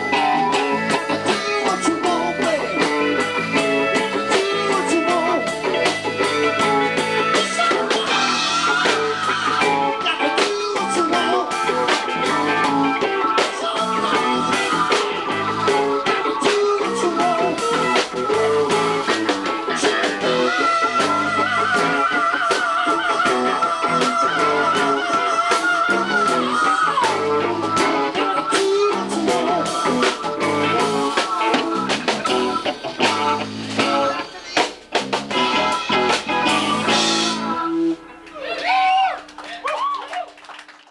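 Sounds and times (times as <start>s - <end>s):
live rock band playing: 0.0s - 40.7s.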